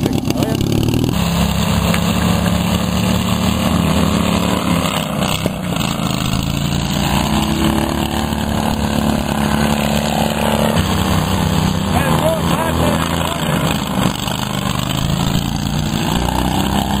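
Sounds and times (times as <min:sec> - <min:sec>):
lawn mower engines running: 0:00.0 - 0:17.0.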